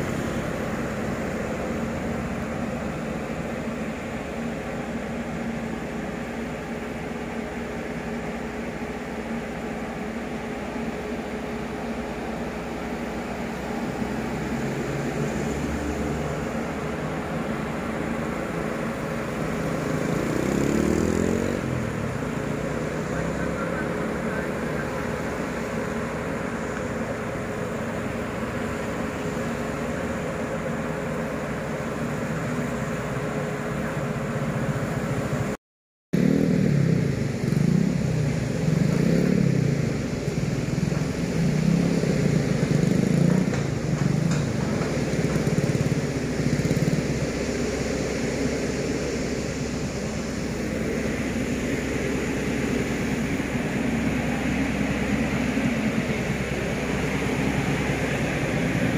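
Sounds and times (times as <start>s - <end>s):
excavator diesel engine revving: 0.0s - 35.4s, 36.2s - 58.9s
road traffic hum: 0.0s - 35.6s, 36.2s - 58.9s.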